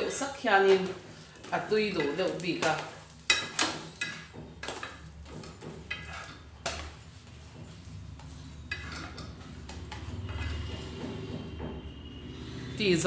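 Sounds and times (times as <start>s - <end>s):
faint sizzle: 0.0s - 10.8s
metal spatula scraping griddle: 0.0s - 12.8s.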